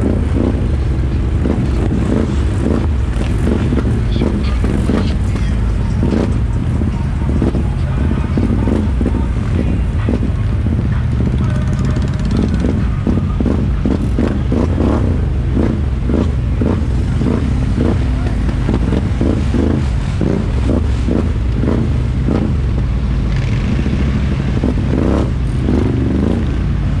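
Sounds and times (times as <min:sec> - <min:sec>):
atv engine running: 0:00.0 - 0:27.0.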